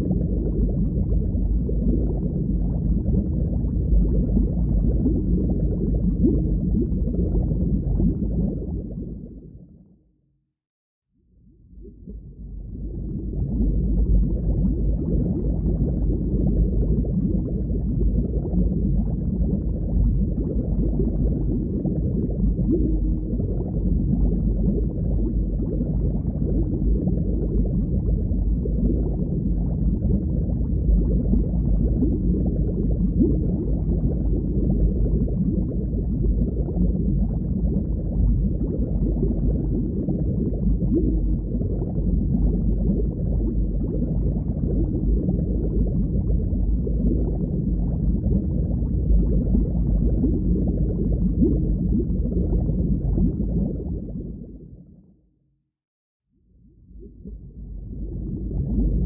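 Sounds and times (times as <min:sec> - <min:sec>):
muffled underwater water rush: 0:00.0 - 0:10.0, 0:11.4 - 0:55.3, 0:56.5 - 0:59.0.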